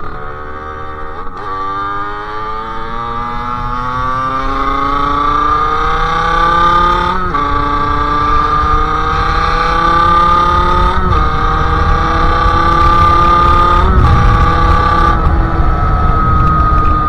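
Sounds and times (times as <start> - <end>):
two-stroke engine accelerating: 0.0 - 17.0.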